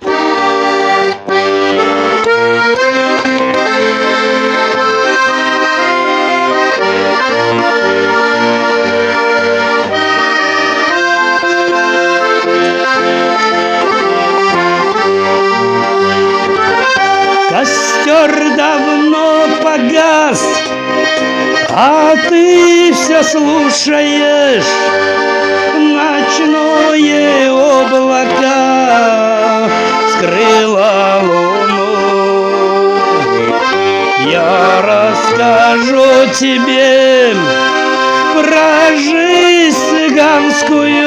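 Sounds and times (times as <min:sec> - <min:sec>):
held chords over bass line: 0:00.0 - 0:41.0.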